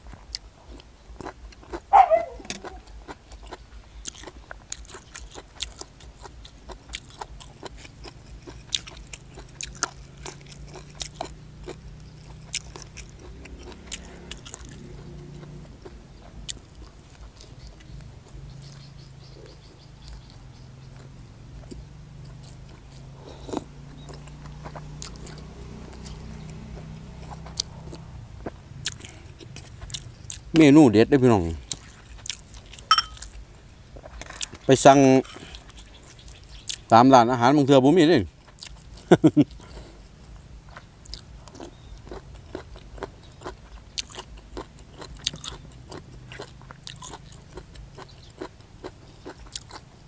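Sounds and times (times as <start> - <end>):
crisp chewing crunches: 0.0 - 33.4, 34.0 - 36.9, 38.3 - 50.0.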